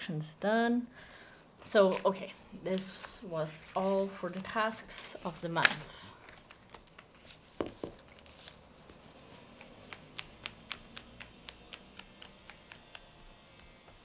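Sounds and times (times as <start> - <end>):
paper pages turning: 1.7 - 13.9.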